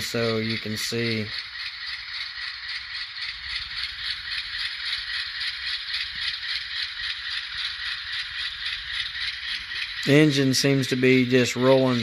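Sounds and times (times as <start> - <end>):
thin rhythmic diesel chugging: 0.0 - 12.0.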